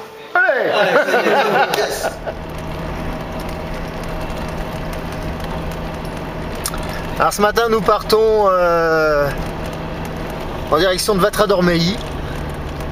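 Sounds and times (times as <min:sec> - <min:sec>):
road noise: 0:00.0 - 0:12.9
voices: 0:00.0 - 0:12.9
diesel engine hum: 0:01.3 - 0:12.9.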